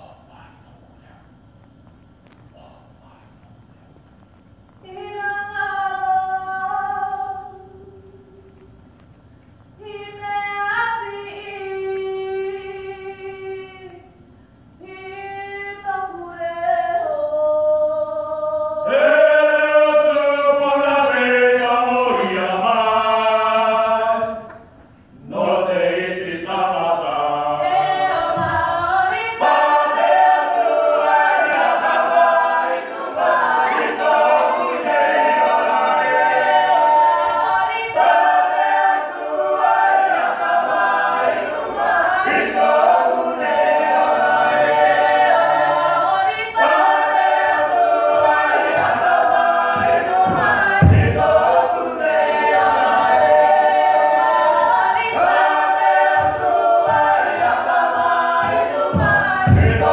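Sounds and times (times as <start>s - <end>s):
choir singing unaccompanied hymn: 4.8s - 8.4s, 14.8s - 59.9s.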